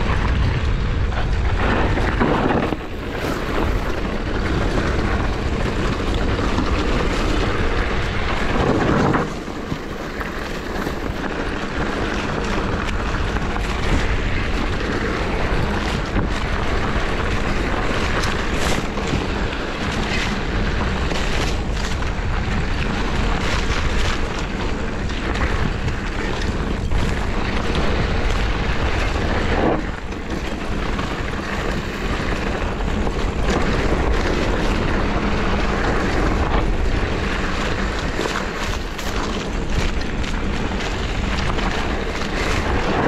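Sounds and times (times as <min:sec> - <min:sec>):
bike knocking and rattling: 0:00.0 - 0:43.0
bike tyres rolling on dirt: 0:00.0 - 0:43.0
wind on microphone: 0:00.0 - 0:43.0.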